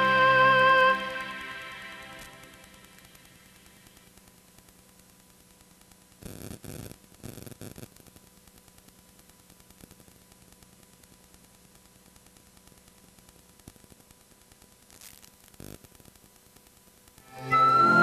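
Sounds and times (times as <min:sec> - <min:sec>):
tape hiss and hum: 0:00.0 - 0:18.0.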